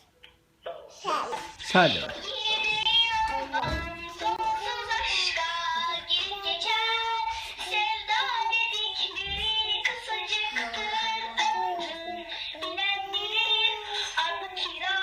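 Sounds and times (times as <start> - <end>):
child singing: 1.0 - 1.5, 2.2 - 15.0.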